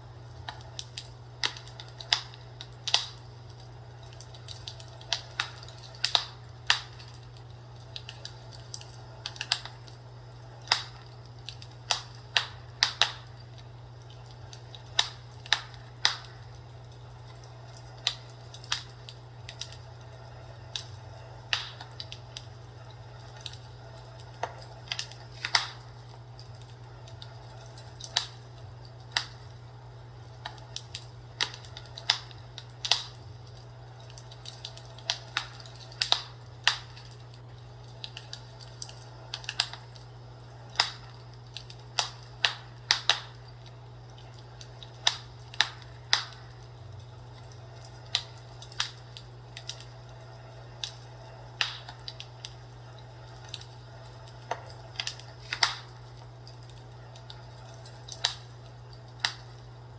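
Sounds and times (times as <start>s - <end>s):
fireplace crackling and popping: 0.0s - 59.9s
steady low hum: 0.0s - 59.9s.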